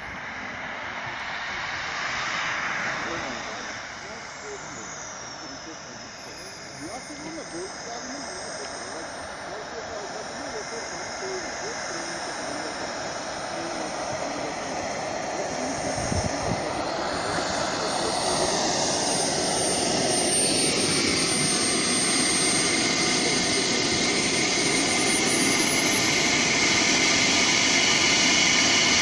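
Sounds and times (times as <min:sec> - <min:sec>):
jet turbine engine whine: 0:00.0 - 0:29.0.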